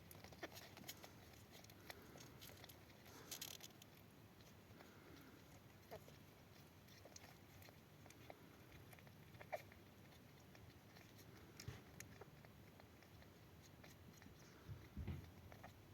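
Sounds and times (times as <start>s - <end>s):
faint clicks and rustles: 0.0s - 15.9s.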